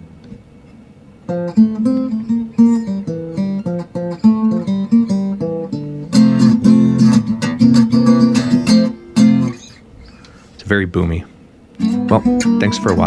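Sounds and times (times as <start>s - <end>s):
acoustic guitar playing: 1.2s - 10.5s, 11.8s - 13.0s.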